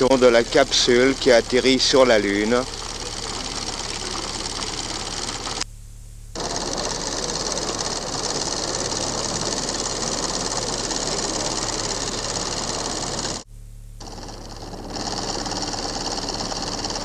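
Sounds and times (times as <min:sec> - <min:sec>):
fast mechanical rattle: 0:00.0 - 0:05.6, 0:06.4 - 0:13.4, 0:14.0 - 0:17.0
low steady hum: 0:00.0 - 0:17.0.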